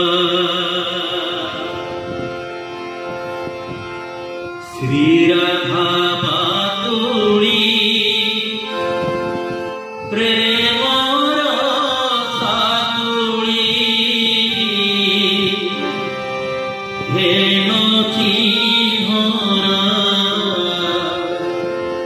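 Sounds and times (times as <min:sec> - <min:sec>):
man singing: 0:00.0 - 0:02.2, 0:04.6 - 0:09.2, 0:10.0 - 0:22.0
harmonium chords: 0:00.0 - 0:22.0.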